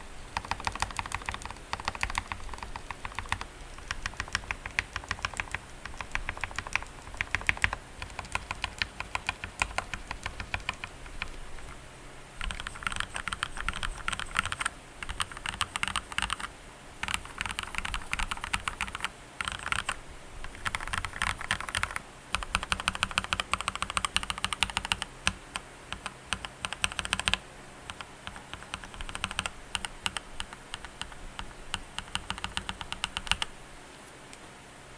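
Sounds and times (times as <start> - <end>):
mechanical keyboard typing: 0.3 - 11.8, 12.4 - 33.5.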